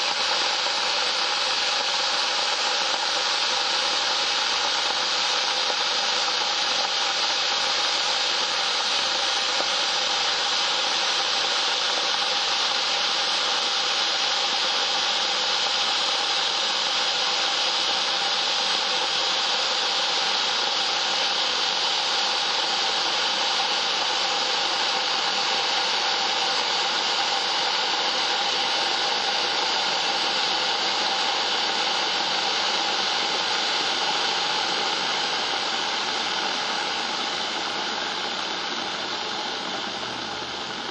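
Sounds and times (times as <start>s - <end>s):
electric kettle heating water: 0.0s - 40.9s.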